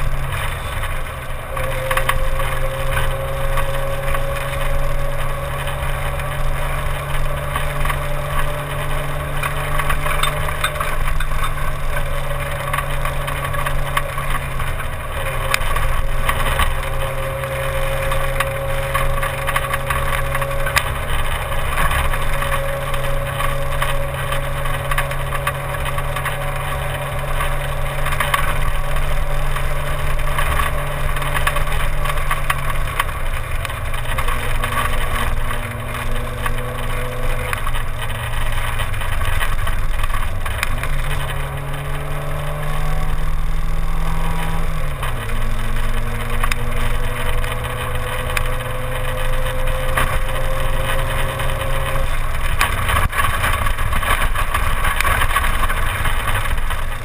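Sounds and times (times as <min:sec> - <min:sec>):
rally car engine pulling hard: 0:00.0 - 0:57.0
road and wind rushing noise: 0:00.0 - 0:57.0.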